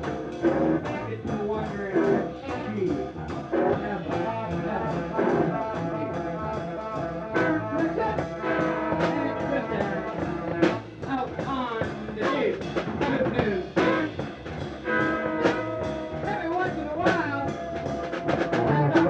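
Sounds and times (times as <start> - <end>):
drum hits: 0.0 - 19.0
rock band playing live: 0.0 - 19.0.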